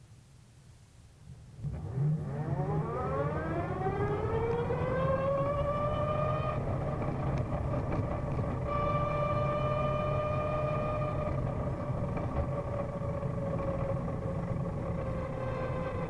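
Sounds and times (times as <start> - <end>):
low steady rumble: 0.0 - 16.0
electric scooter gear whine: 1.6 - 16.0.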